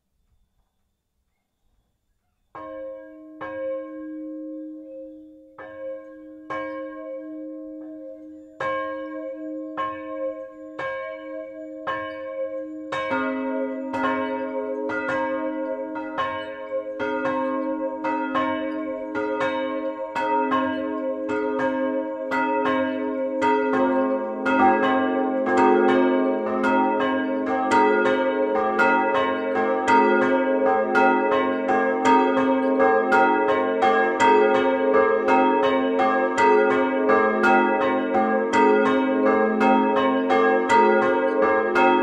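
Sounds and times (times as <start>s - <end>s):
larger lower church bell: 2.6s - 42.0s
small church bell striking: 2.6s - 42.0s.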